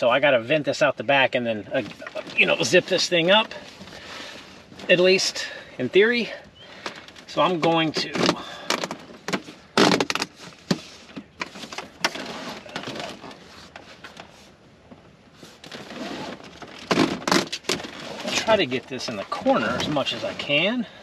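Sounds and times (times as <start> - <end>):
hoses rustling and scraping: 0.0 - 21.0.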